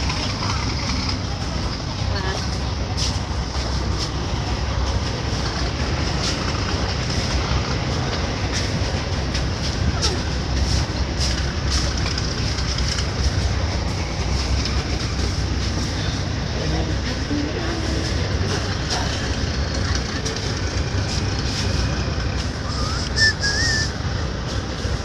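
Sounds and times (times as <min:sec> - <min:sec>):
diesel engines rumbling: 0:00.0 - 0:25.0.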